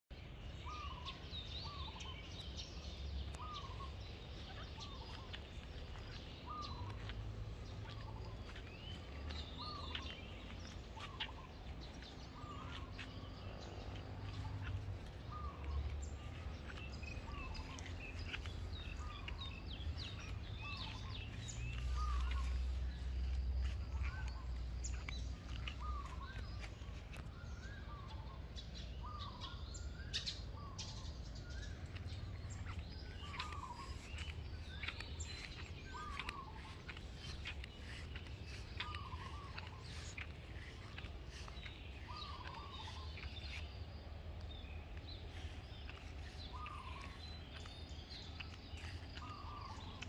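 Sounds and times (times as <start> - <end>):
birds chirping: 0.1 - 50.0.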